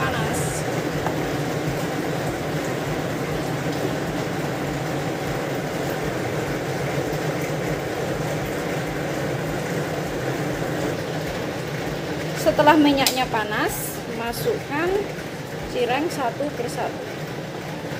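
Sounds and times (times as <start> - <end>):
stove burner rushing hum: 0.0 - 17.9.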